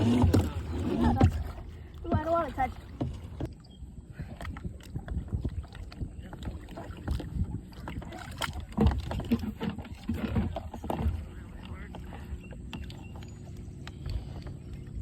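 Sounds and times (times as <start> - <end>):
water splashing around kayaks: 0.0 - 15.0.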